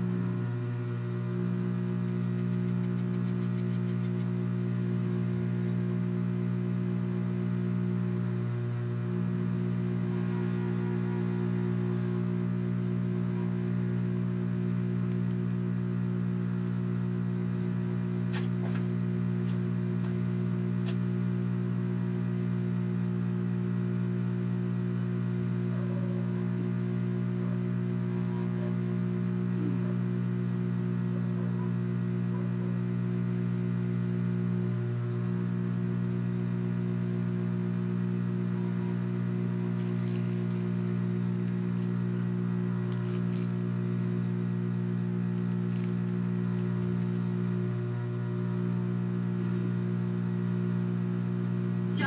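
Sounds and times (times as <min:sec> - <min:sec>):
television electrical hum: 0:00.0 - 0:52.0.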